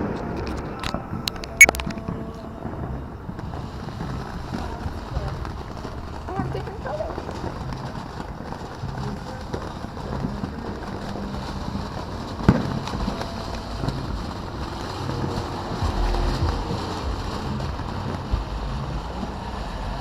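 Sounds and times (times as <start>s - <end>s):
low rumbling wind noise: 0.0s - 20.0s.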